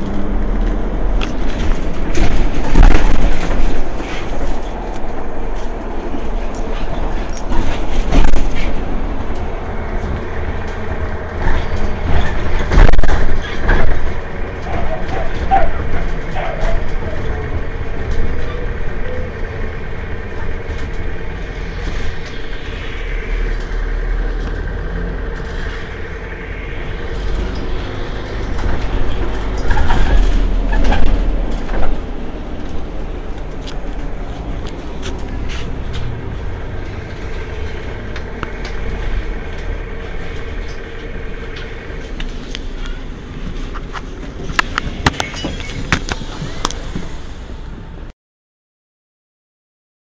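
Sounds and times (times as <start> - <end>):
bus diesel engine idling: 0.0 - 48.1.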